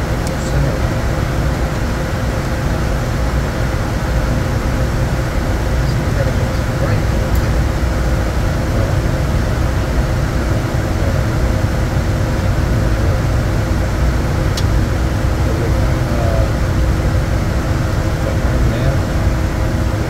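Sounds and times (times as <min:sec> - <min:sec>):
jet cabin air and engine noise: 0:00.0 - 0:20.0.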